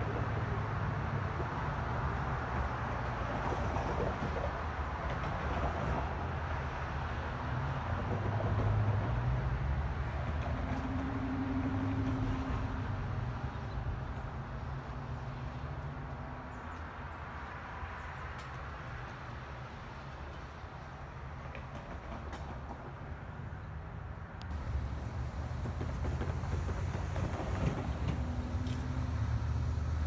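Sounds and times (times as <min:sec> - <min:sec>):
train rumble and hum: 0:00.0 - 0:30.0.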